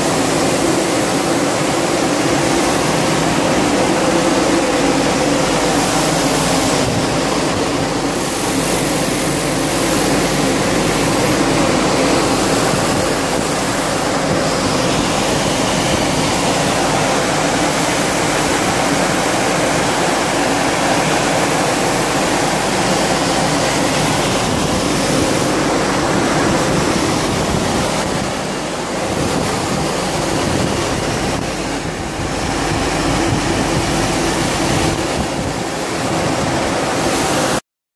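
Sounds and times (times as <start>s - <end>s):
low machine hum: 0.0s - 37.6s
rushing hiss of production line: 0.0s - 37.6s.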